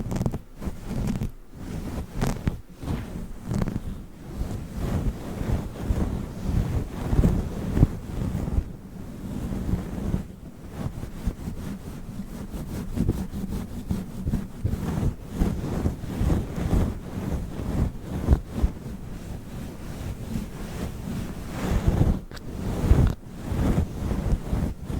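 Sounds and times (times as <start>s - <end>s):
microphone windscreen rubbing: 0.0s - 24.9s.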